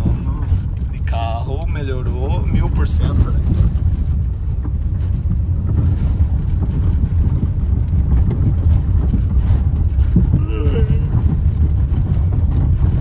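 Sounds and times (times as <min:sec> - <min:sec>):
car driving low rumble: 0:00.0 - 0:13.0.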